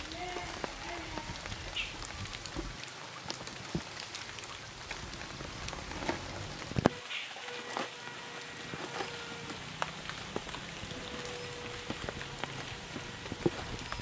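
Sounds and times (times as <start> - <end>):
rain pattering on a pond: 0.0 - 14.0.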